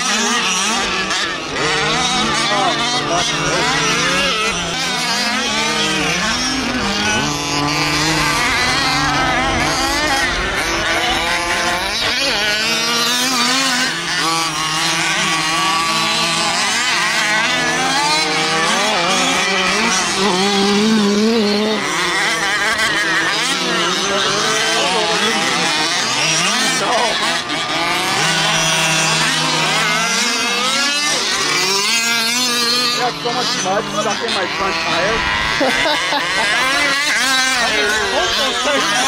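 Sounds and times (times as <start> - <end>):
rc buggy engines revving: 0.0 - 39.0.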